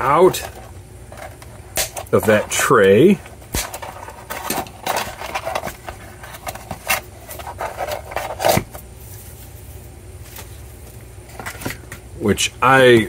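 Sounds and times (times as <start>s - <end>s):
cardboard rustling and scraping: 0.1s - 11.9s.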